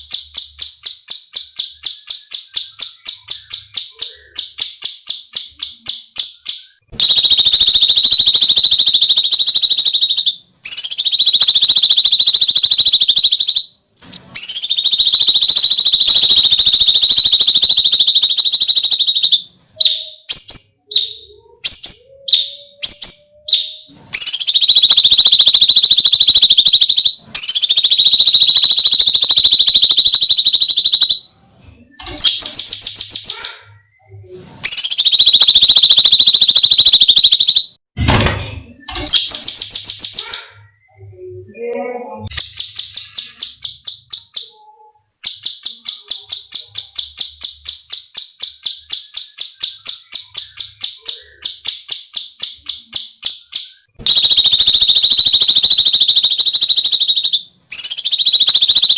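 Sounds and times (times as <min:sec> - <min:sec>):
bird's fast repeated sharp notes: 0:00.0 - 0:33.9, 0:34.6 - 0:40.9, 0:42.3 - 0:44.6, 0:45.2 - 0:58.9.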